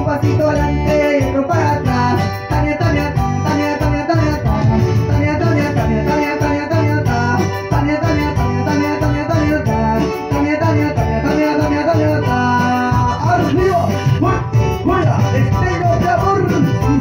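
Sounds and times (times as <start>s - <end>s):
amplified acoustic guitar: 0.0s - 17.0s
keyboard: 0.0s - 17.0s
man singing into a microphone: 0.0s - 17.0s
steady beat: 0.0s - 17.0s.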